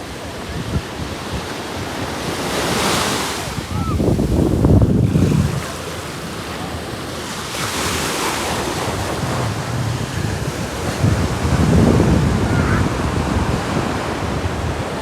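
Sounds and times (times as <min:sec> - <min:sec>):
sea waves breaking on beach: 0:00.0 - 0:15.0
wind buffeting microphone: 0:00.0 - 0:15.0.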